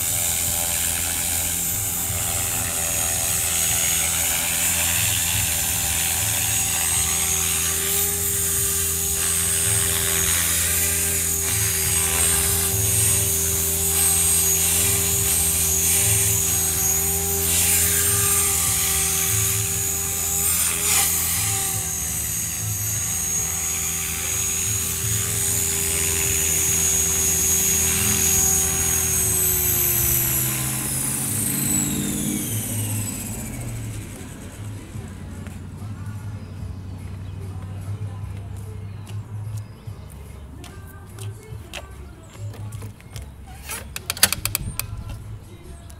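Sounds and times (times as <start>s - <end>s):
rc helicopter rotor whine: 0.0s - 37.9s, 43.4s - 45.9s.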